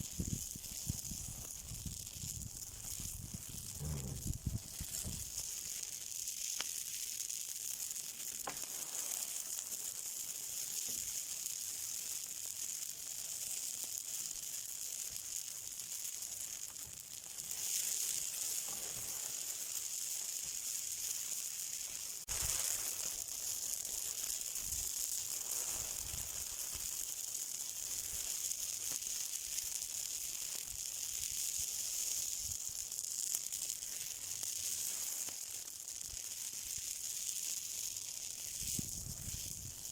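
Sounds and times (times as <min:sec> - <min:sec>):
burning hiss and sizzle: 0:00.0 - 0:39.9
faint crackles: 0:00.0 - 0:39.9.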